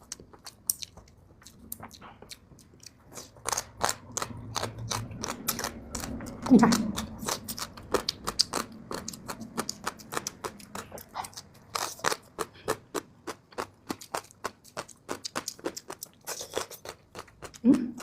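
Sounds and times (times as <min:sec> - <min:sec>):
crisp crunchy chewing: 0:00.0 - 0:17.7.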